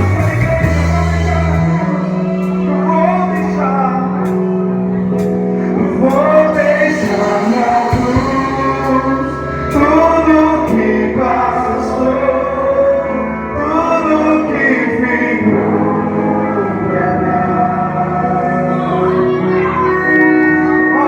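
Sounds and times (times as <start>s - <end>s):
instrumental backing: 0.0s - 21.0s
voices singing together: 0.0s - 21.0s.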